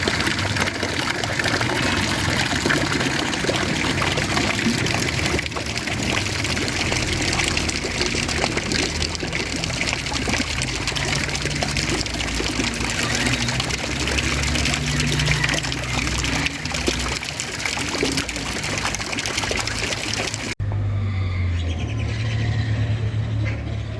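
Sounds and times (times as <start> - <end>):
running water: 0.0 - 20.6.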